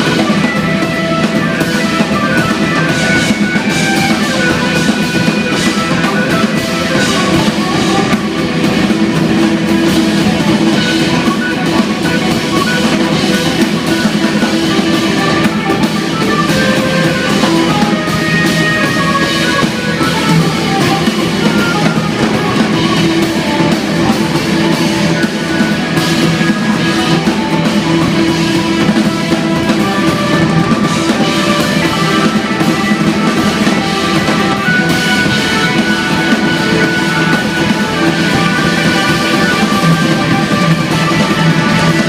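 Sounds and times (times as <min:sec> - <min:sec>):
busy drum kit: 0:00.0 - 0:42.0
electric bass: 0:00.0 - 0:42.0
keyboards: 0:00.0 - 0:42.0.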